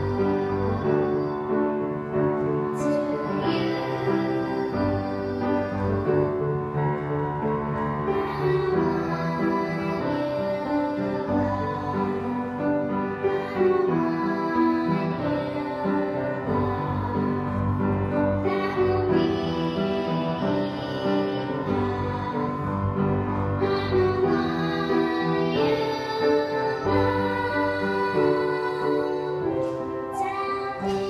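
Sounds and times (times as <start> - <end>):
girls singing a duet: 0.0 - 31.0
keyboard: 0.0 - 31.0.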